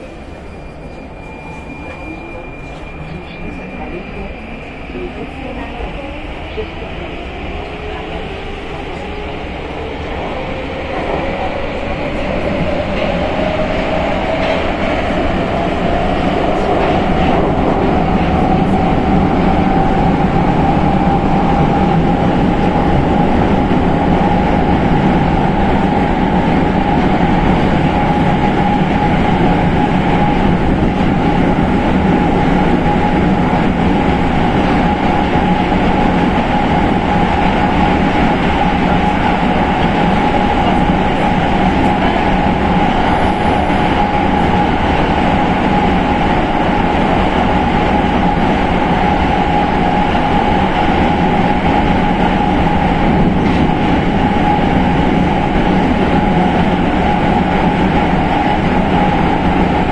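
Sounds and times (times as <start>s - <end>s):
train wheel and track rumble: 0.0s - 59.9s.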